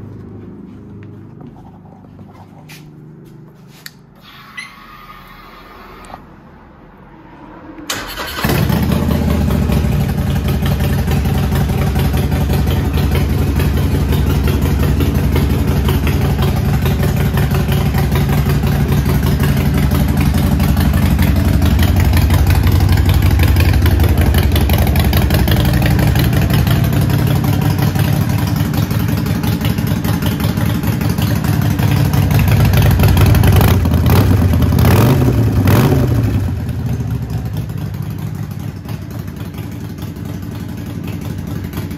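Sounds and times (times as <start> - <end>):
motorcycle engine starting and idling: 0.1 - 6.4, 7.8 - 41.9
motorcycle engine revving: 7.3 - 41.9.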